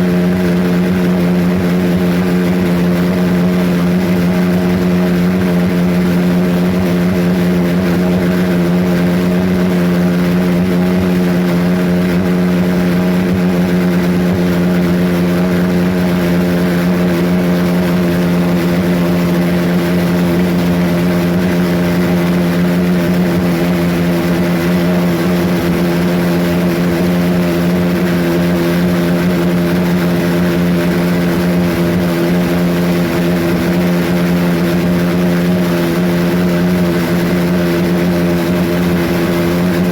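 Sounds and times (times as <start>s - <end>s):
pulsejet engine drone: 0.0s - 39.9s.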